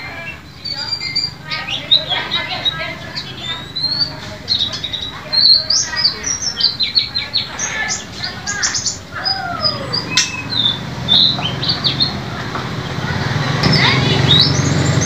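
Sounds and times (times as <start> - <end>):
bird singing high chirps: 0.0 - 15.0.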